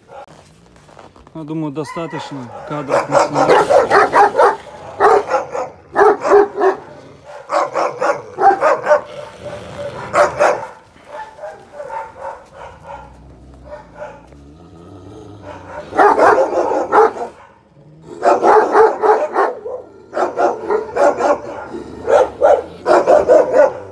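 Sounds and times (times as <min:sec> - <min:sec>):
dog barking: 0:00.0 - 0:00.4, 0:01.9 - 0:14.3, 0:15.4 - 0:23.9.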